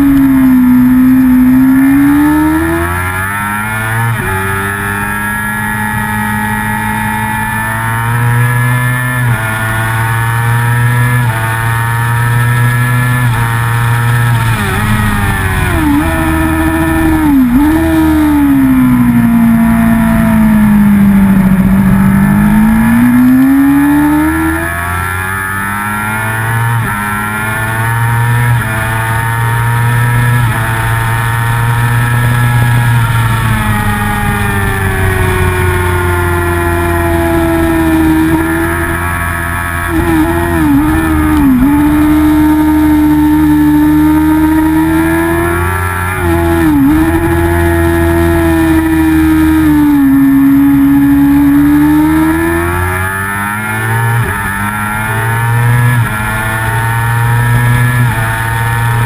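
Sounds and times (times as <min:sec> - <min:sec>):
racing motorcycle engine: 0:00.0 - 0:59.0.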